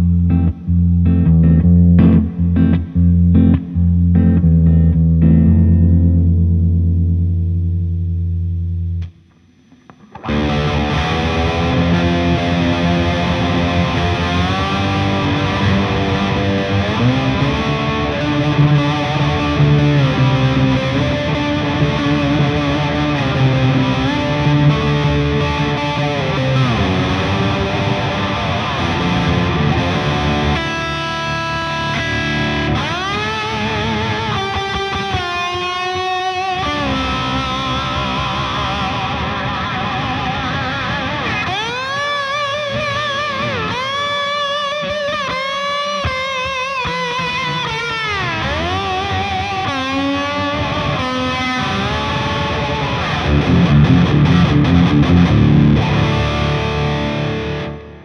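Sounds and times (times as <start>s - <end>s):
electric guitar blues lead: 0.0s - 58.0s
low electric guitar chords: 0.0s - 58.0s.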